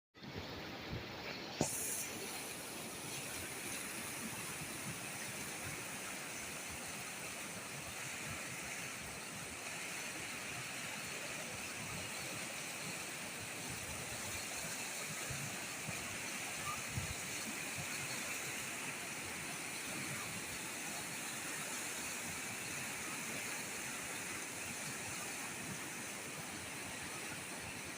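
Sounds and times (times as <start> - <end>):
river water rushing: 0.2 - 27.9.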